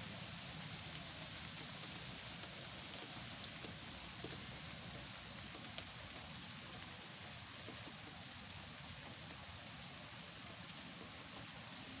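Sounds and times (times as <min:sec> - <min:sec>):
steady rain on grass and trees: 0:00.0 - 0:12.0.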